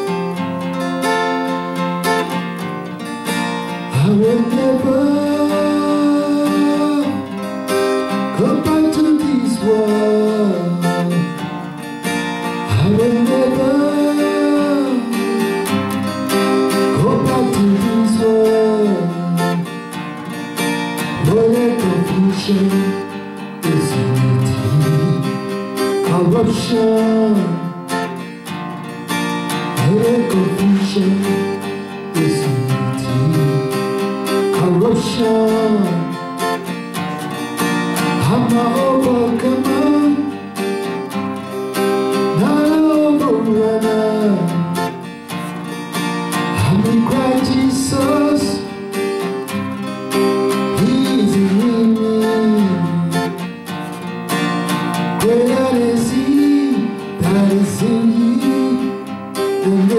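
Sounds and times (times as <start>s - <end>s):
acoustic guitar strumming: 0.0s - 59.9s
man singing: 3.3s - 28.3s, 29.4s - 45.2s, 46.0s - 53.5s, 55.0s - 59.9s.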